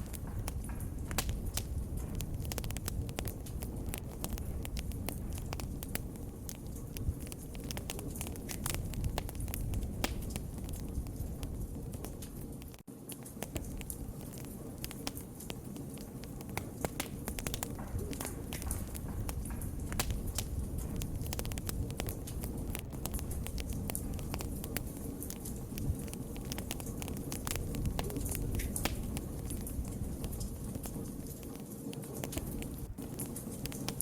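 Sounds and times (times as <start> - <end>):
low rumble of flames: 0.0 - 34.0
pops and snaps of fire: 0.0 - 34.0
wood fire crackling: 0.0 - 34.0.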